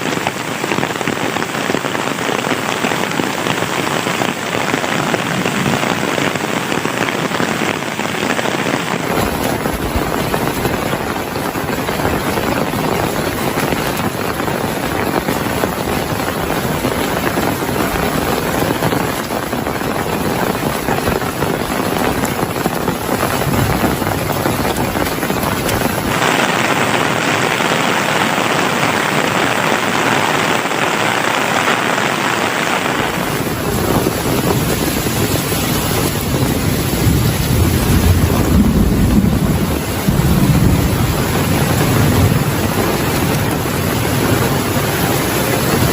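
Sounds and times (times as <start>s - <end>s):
heavy rain: 0.0s - 45.9s.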